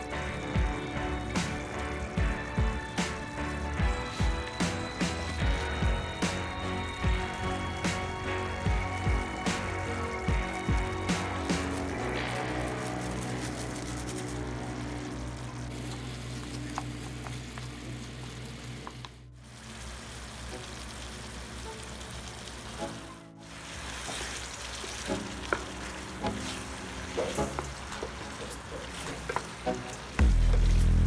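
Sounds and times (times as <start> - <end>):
background music: 0.0 - 31.0
chicken sizzling in a pan: 0.0 - 31.0.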